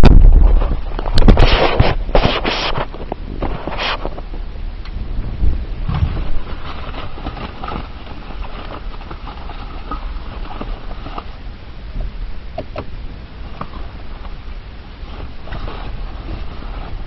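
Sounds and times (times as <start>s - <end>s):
car road noise rumble: 2.8s - 17.0s.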